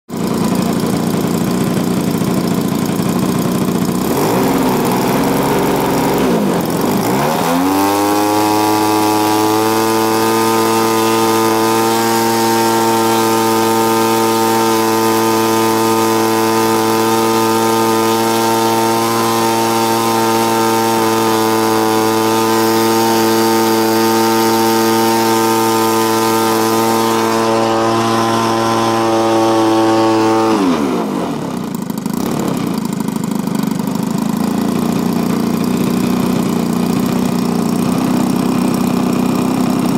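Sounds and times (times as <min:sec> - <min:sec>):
model aircraft engine revving: 0:00.1 - 0:39.9.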